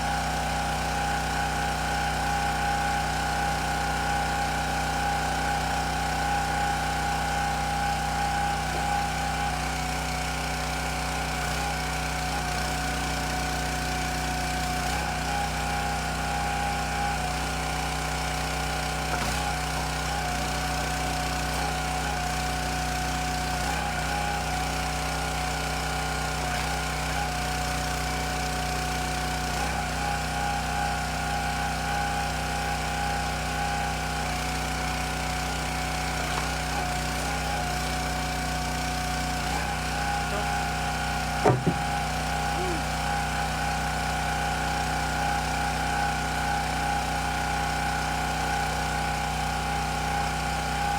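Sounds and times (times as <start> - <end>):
small engine humming and whining: 0.0 - 50.9.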